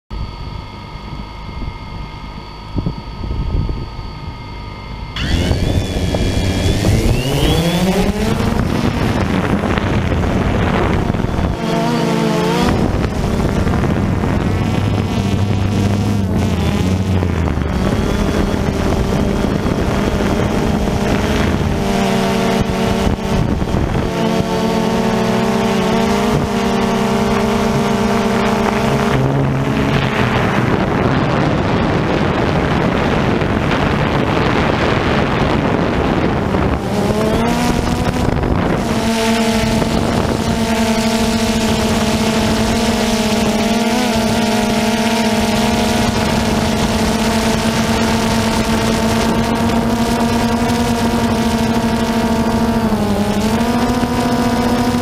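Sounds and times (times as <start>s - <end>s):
quadcopter motors and propellers: 0.1s - 55.0s.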